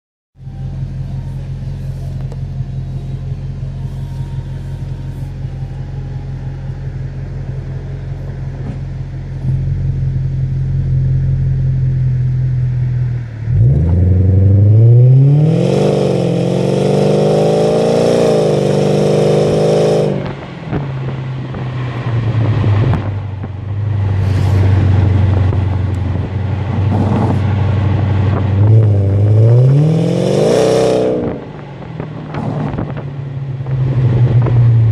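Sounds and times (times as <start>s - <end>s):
car engine idling and revving: 0.4s - 34.9s.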